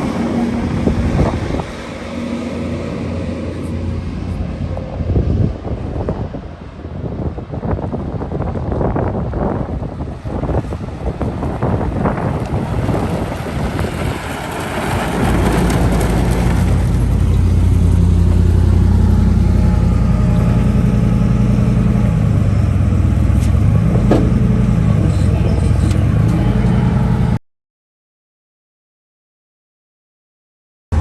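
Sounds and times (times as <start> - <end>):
vehicle running low hum: 0.0 - 27.4.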